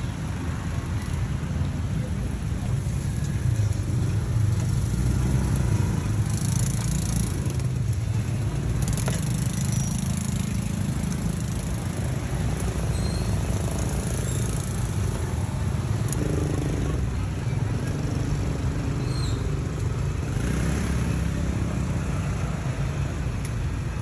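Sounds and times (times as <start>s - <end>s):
motorbike engines running: 0.0s - 24.0s.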